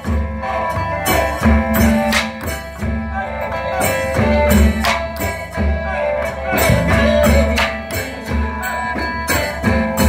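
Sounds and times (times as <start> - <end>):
folk music melody over beat: 0.0 - 10.0.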